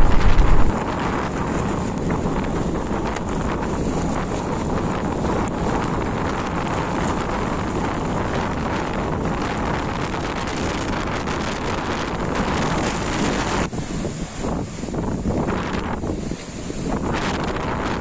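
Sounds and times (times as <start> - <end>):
storm wind buffeting microphone: 0.0 - 18.0
waves breaking on shore: 0.0 - 18.0.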